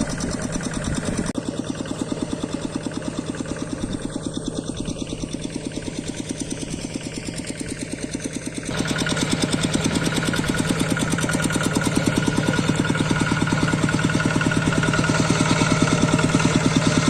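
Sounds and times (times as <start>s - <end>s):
single-cylinder diesel engine running: 0.0s - 17.0s.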